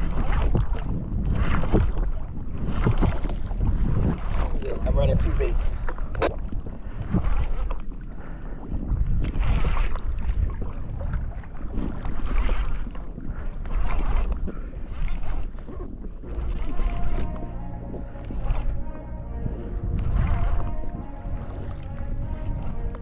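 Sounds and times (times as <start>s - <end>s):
water sloshing around kayak: 0.0s - 23.0s
wind buffeting microphone: 0.0s - 23.0s.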